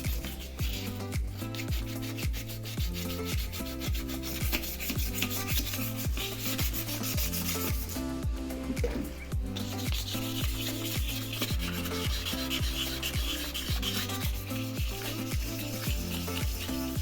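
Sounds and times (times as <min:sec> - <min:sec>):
music with kick-drum beat: 0:00.0 - 0:17.0.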